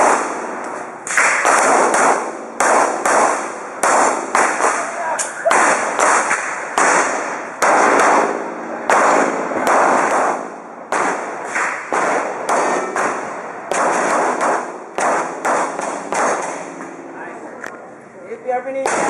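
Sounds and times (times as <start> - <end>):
pistol shots echoing: 0.0 - 17.0.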